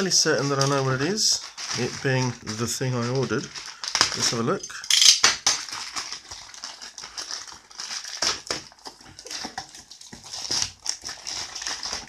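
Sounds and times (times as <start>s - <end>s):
plastic mailing bag crinkling: 0.0s - 12.0s.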